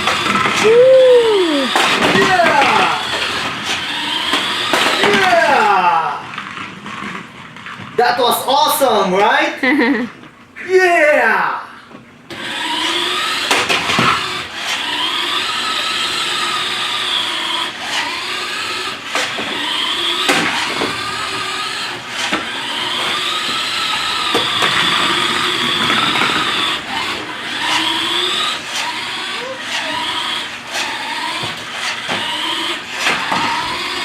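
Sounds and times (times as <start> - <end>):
toy car electric motor whining: 0.0 - 7.8, 12.3 - 34.0.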